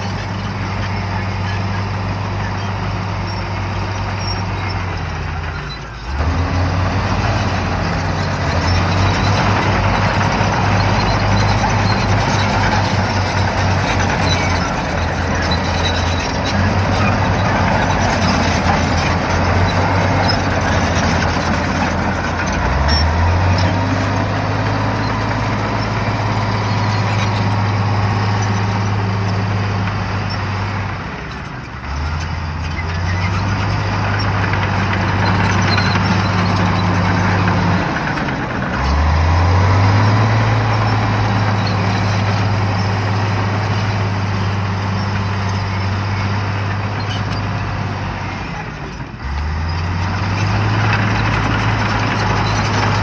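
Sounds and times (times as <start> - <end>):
bulldozer diesel engine revving: 0.0 - 53.0.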